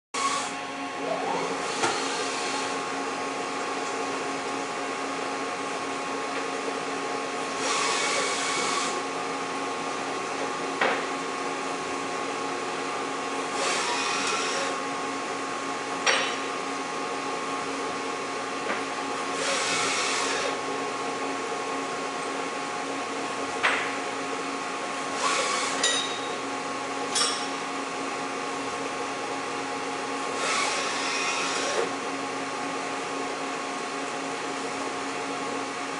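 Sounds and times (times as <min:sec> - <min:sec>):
machine hum and whine: 0:00.2 - 0:35.9.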